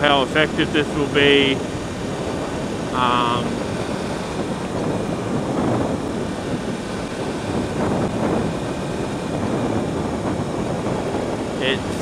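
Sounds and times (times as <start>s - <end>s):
motorcycle engine: 0.0s - 12.0s
wind rush over microphone: 0.0s - 12.0s.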